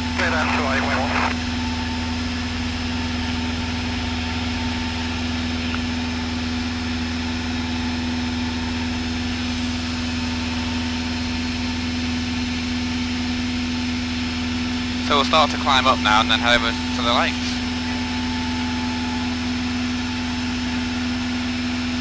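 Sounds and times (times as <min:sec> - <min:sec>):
plane engine drone in cabin: 0:00.0 - 0:22.0.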